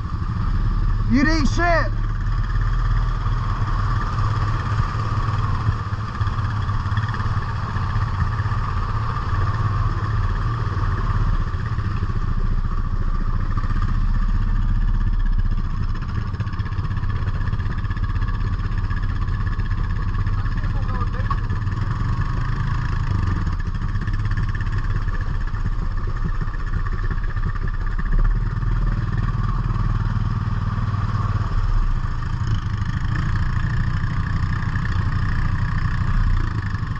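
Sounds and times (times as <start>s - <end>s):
atv engine running: 0.0s - 36.9s.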